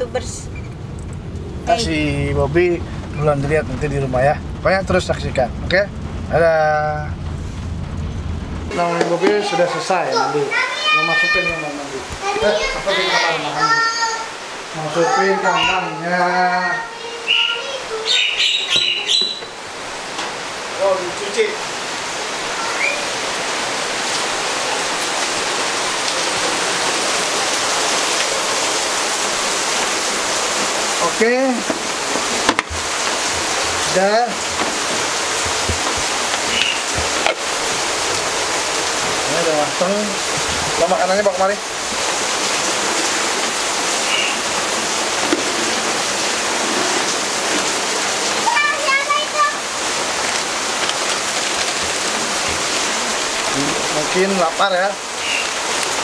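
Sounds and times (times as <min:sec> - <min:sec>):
steady loud rushing noise: 0:00.0 - 0:15.7, 0:18.9 - 0:56.0
falling water hissing: 0:00.0 - 0:56.0.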